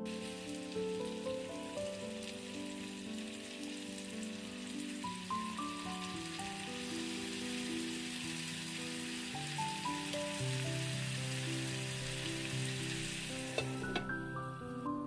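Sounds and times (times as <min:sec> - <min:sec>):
food sizzling in a skillet: 0:00.0 - 0:14.9
soft background music: 0:00.0 - 0:15.0.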